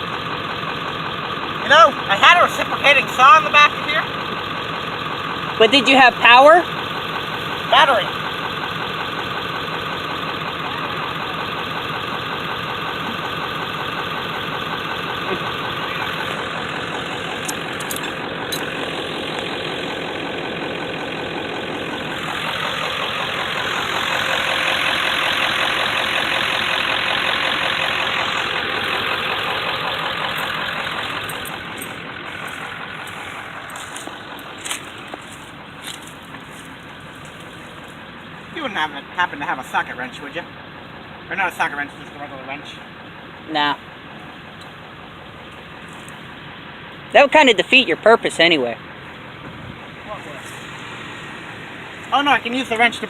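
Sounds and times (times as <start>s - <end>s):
vehicle engine idling: 0.0s - 53.0s.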